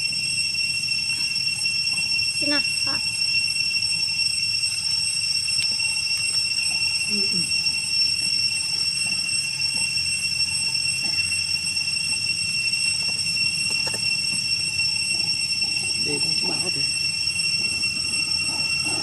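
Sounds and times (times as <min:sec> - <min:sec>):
insect high-pitched whine: 0:00.0 - 0:19.0.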